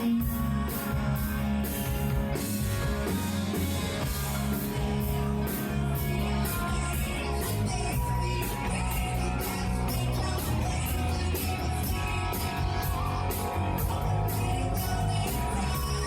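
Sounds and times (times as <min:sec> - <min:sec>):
live hard rock band: 0:00.0 - 0:16.0.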